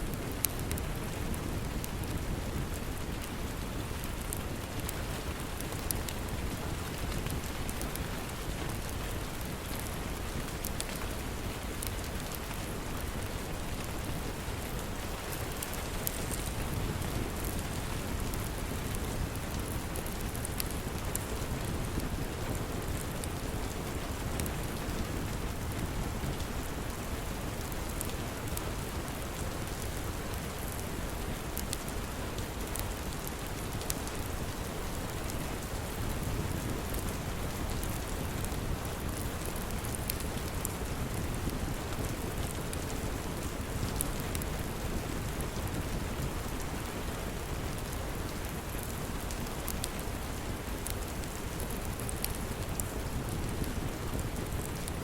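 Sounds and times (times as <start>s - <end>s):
steady rain: 0.0s - 55.0s
wood fire crackling: 0.1s - 55.0s.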